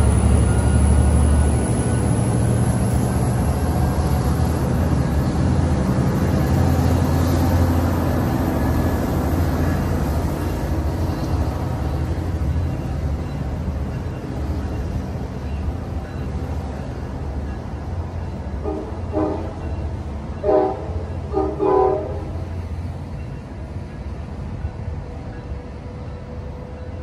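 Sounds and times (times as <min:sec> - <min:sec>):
locomotive engine rumbling: 0:00.0 - 0:27.0
rolling train noise: 0:00.0 - 0:27.0.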